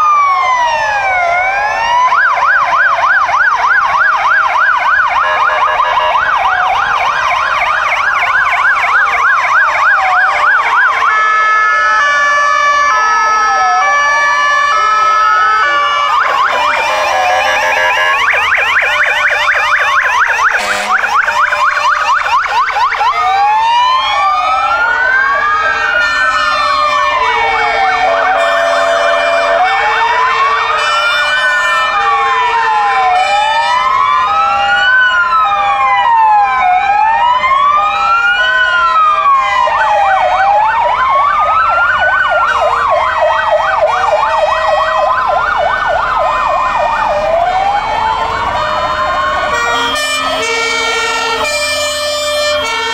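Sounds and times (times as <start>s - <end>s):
fire engine sirens wailing: 0.0s - 52.9s.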